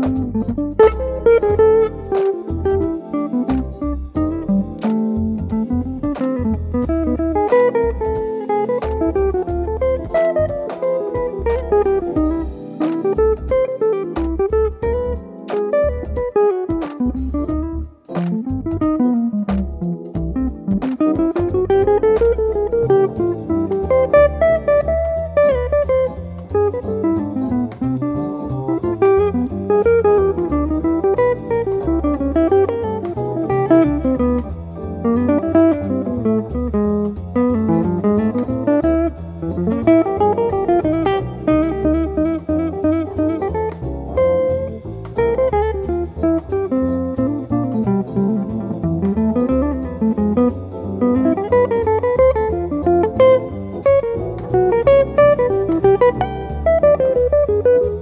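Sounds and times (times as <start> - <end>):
electric jazz guitar improvising: 0.0 - 58.0.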